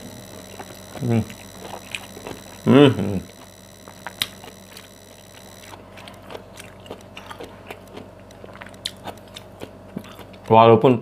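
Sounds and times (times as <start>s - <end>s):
person chewing food: 0.4s - 10.5s.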